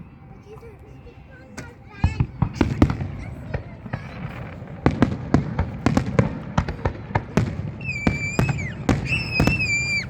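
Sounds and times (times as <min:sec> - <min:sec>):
high whistling fireworks: 0:01.2 - 0:10.0
fireworks bangs and cracks: 0:01.9 - 0:10.0.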